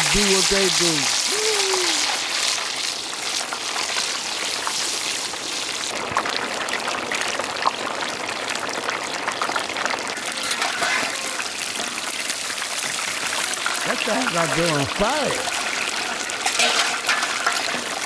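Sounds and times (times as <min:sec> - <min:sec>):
chicken sizzling in hot oil: 0:00.0 - 0:18.0
oil popping and crackling: 0:00.0 - 0:18.0.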